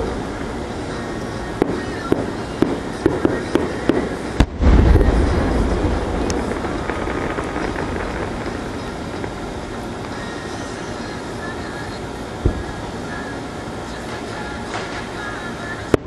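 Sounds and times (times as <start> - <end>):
heavy fireworks boom: 0.0 - 13.0
rumble: 0.0 - 15.5
fireworks bangs: 0.0 - 16.0.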